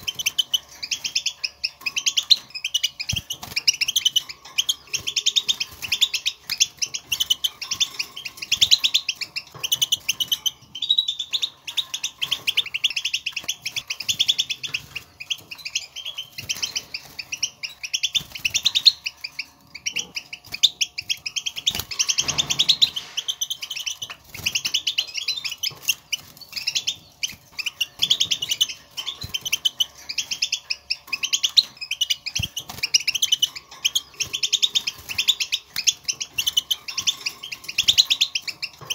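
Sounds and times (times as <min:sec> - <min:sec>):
goldfinch twittering: 0:00.0 - 0:38.9.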